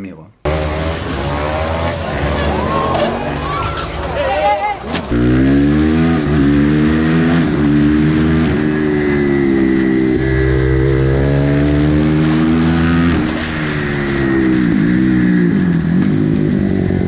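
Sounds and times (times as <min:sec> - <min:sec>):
motorcycle engine accelerating: 0:00.5 - 0:04.2, 0:04.9 - 0:17.0.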